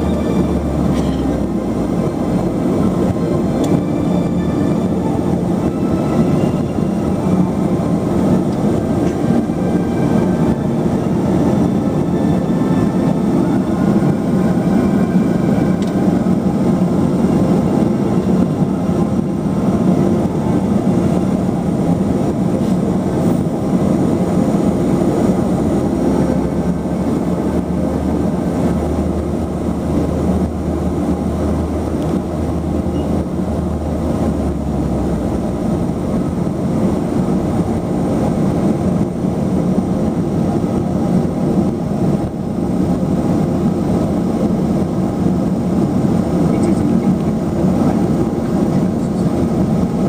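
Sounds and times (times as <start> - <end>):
low hum: 0.0 - 50.0
turboprop engines from cabin: 0.0 - 50.0.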